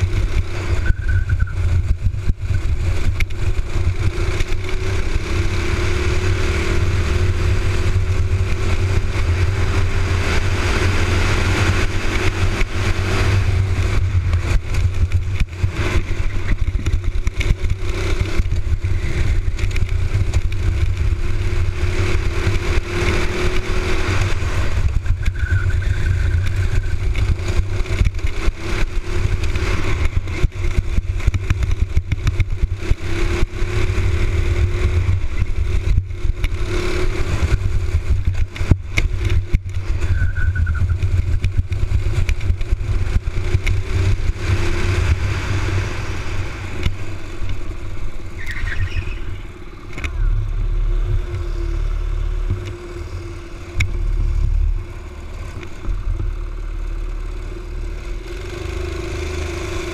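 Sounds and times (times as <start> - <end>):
kart engine revving: 0.0 - 59.9
wind rumble on microphone: 0.0 - 59.9.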